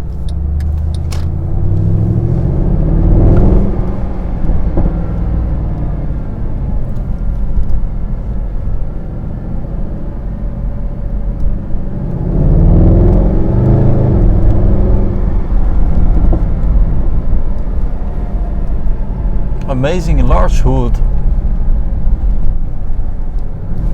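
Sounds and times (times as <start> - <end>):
car engine accelerating: 0.0 - 23.9.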